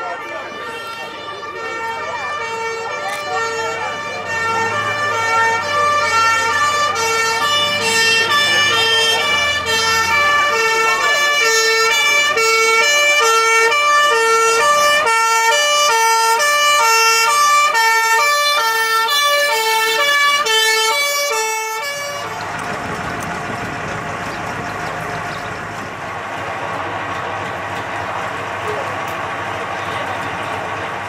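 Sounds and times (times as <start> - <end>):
fire engine two-tone siren: 0.0 - 25.8.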